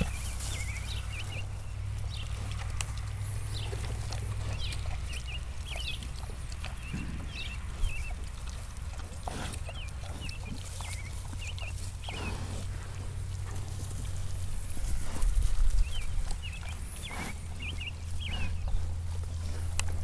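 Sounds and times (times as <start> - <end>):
pigs snuffling in grass: 0.0 - 20.0.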